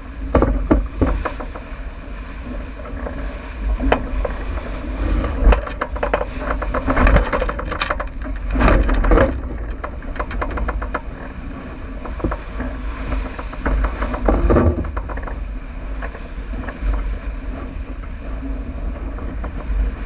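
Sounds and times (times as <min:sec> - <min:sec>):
water splashes and boat knocks: 0:00.0 - 0:20.0
wind rumbling on microphone: 0:00.0 - 0:20.0.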